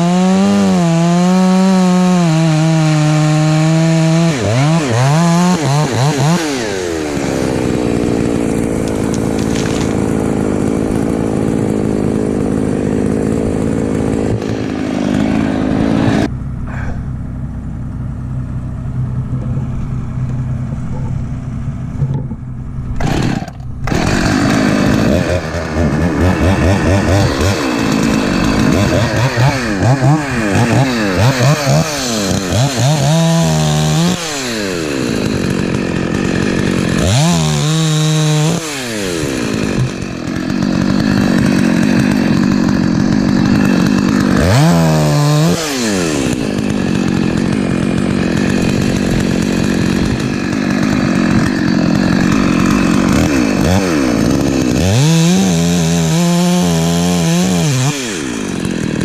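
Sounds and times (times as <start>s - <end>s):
chainsaw revving: 0.0s - 16.8s, 19.2s - 59.0s.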